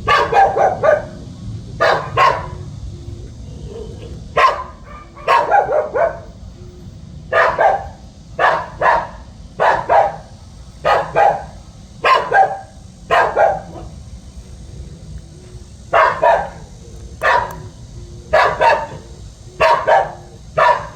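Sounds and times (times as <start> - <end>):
dog barking: 0.0 - 2.8, 3.4 - 6.4, 7.3 - 14.0, 15.9 - 20.9.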